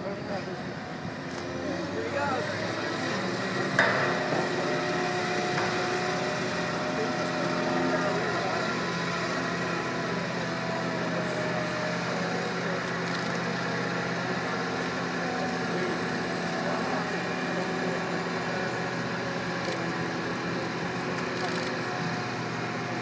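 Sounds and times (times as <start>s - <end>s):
diesel machinery running: 0.0s - 23.0s.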